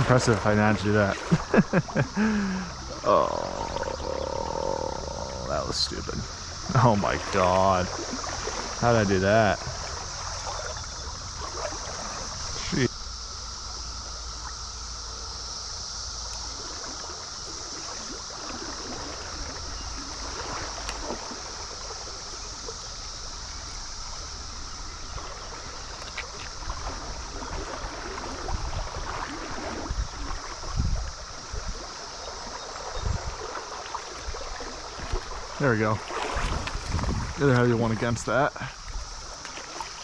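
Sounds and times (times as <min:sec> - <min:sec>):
cicada chorus drone: 0:00.0 - 0:40.0
stream water running: 0:00.0 - 0:40.0.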